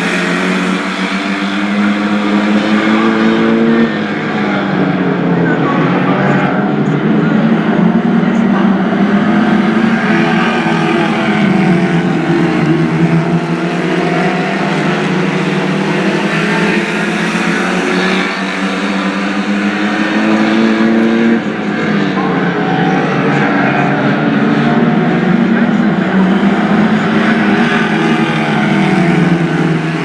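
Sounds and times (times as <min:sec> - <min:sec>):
stock car engines racing: 0:00.0 - 0:30.0.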